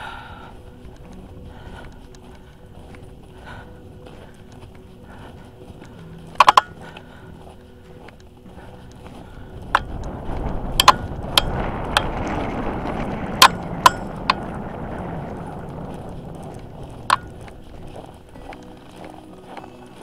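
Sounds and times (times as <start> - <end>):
footsteps crunching on snow: 0.0 - 20.0
trekking pole tips clicking: 0.6 - 14.6, 15.6 - 20.0.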